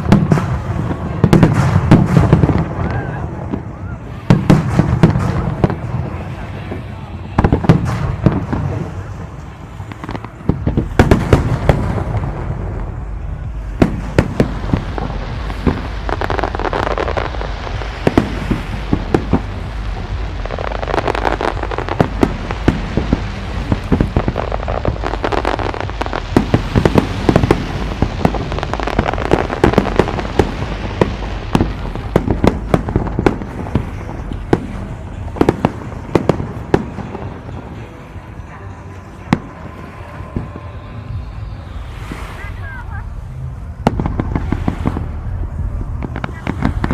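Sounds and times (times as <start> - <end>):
firework bangs and crackles: 0.0 - 46.9
low rumble: 0.0 - 46.9.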